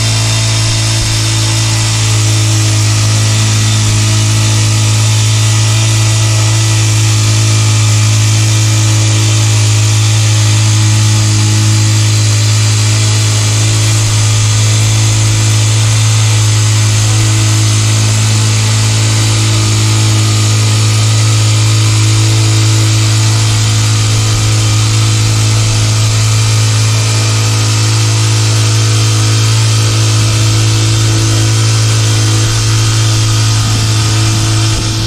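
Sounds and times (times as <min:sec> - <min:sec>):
small gasoline engine droning: 0:00.0 - 0:35.0.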